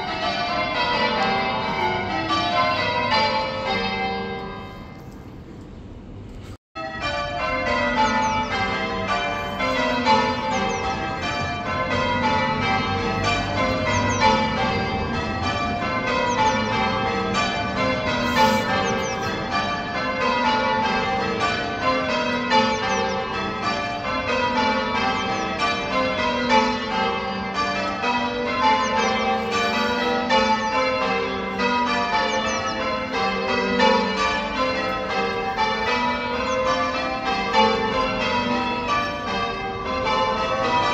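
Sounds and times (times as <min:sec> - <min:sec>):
church bells change ringing: 0:00.0 - 0:06.2, 0:06.8 - 0:40.9.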